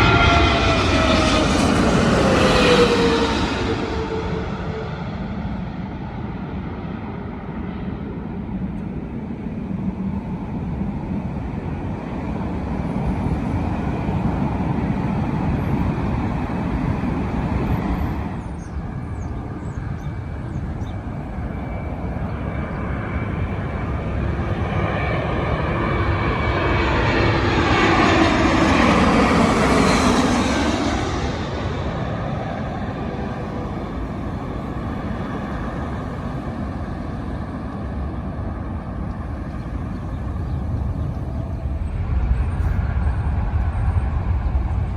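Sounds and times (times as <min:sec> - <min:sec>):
jet airliner passing overhead: 0:00.0 - 0:44.9.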